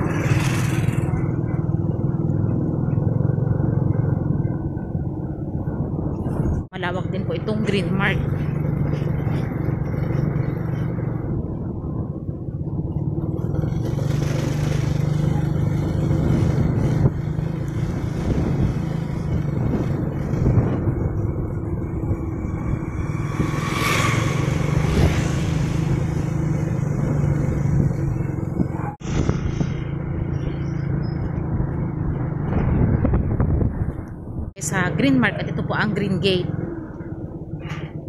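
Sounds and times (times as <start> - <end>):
motorcycle engine running: 0.0 - 5.8, 7.0 - 38.0
motorcycle passing: 0.0 - 38.0
road and wind noise: 0.0 - 38.0.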